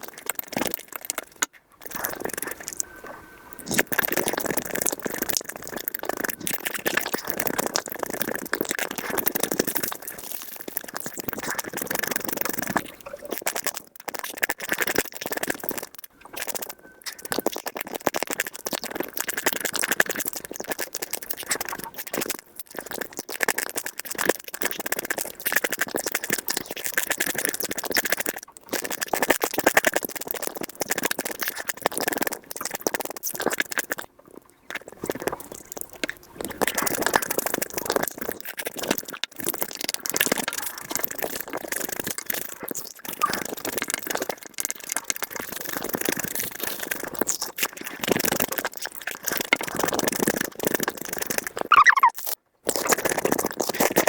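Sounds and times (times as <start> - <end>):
sped-up chewing and crunching: 0.0 - 54.0.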